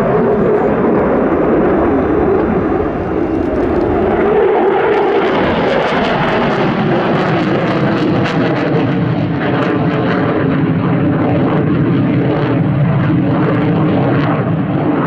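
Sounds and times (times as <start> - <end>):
jet engine roar with crackle: 0.0 - 15.0.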